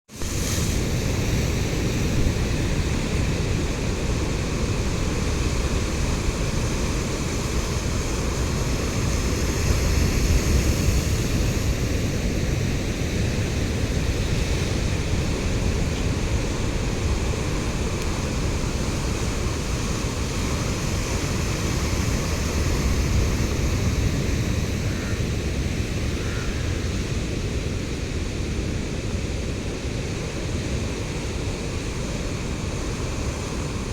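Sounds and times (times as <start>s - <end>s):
sea surf on a shore: 0.1s - 33.9s.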